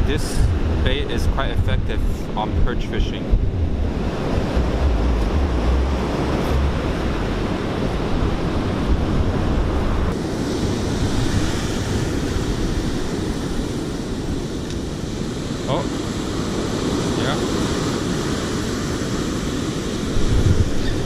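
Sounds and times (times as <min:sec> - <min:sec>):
surf breaking on a beach: 0:00.0 - 0:21.0
wind buffeting microphone: 0:00.0 - 0:21.0.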